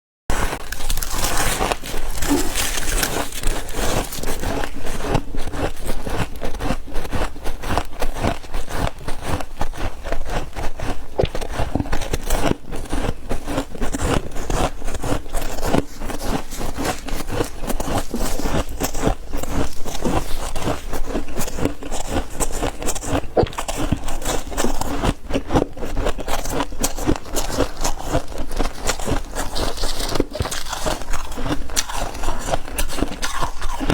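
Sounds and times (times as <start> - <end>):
chewing crunchy frost chunks: 0.3 - 33.9.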